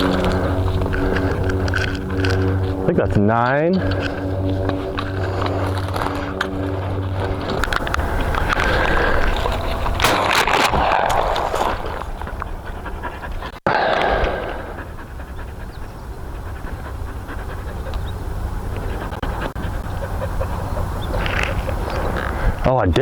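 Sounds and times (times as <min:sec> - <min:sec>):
dog panting: 0:00.0 - 0:10.1, 0:11.2 - 0:22.6.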